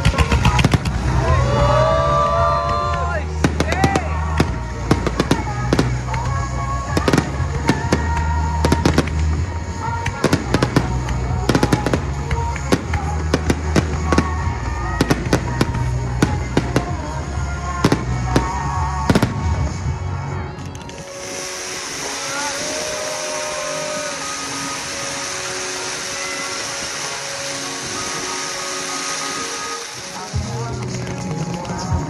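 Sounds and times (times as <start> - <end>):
fireworks bursting and crackling: 0.0 - 32.0
fireworks whistling: 0.0 - 32.0
music: 0.0 - 32.0.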